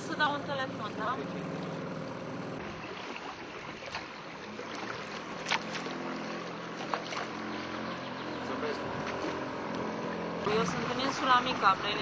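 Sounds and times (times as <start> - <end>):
boat motor hum: 0.0 - 12.0
water and wind noise: 0.0 - 12.0.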